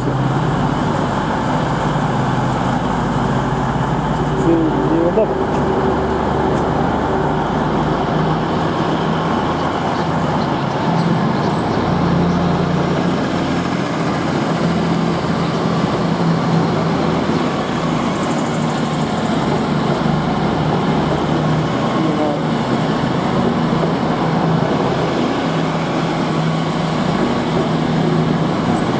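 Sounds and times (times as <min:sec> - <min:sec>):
diesel train passing: 0:00.0 - 0:28.9.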